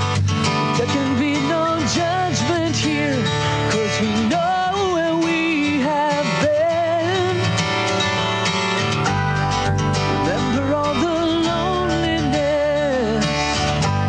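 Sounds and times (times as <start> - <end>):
song with guitar: 0.0 - 14.0.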